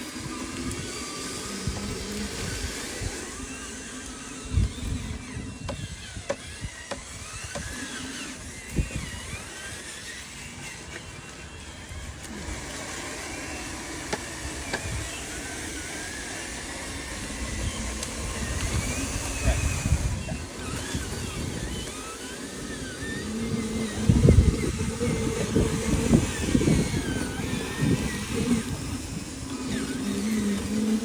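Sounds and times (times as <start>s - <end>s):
small electric motors whining: 0.0s - 31.0s
steady hum: 0.0s - 31.0s.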